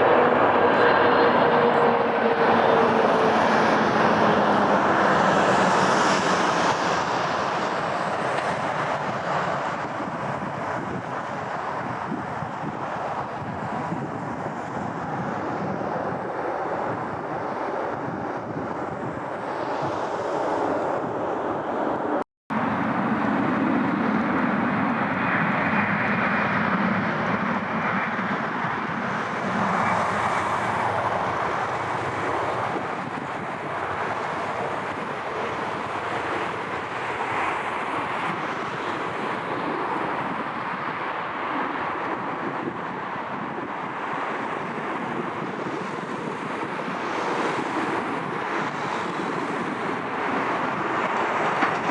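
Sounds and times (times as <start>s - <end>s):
jet plane passing: 0.0s - 51.9s
wind on microphone: 0.0s - 51.9s.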